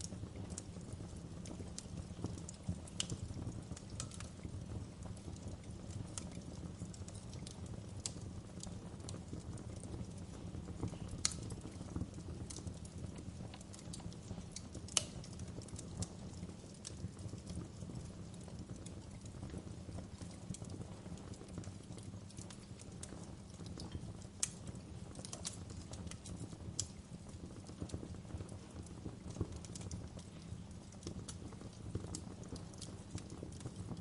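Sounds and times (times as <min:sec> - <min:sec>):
sharp pops and snaps: 0:00.0 - 0:04.4, 0:05.3 - 0:17.6, 0:20.1 - 0:34.0
fire crackling: 0:00.0 - 0:34.0
fire low rumble: 0:00.0 - 0:34.0.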